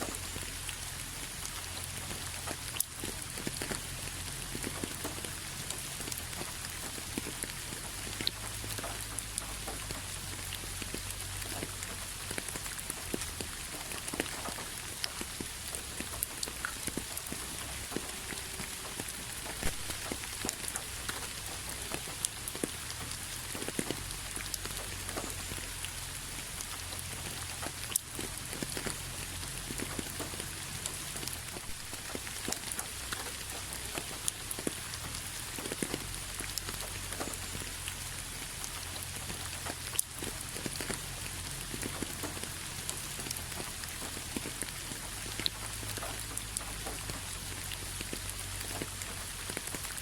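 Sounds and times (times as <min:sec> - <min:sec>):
rain on a hard surface: 0:00.0 - 0:50.0.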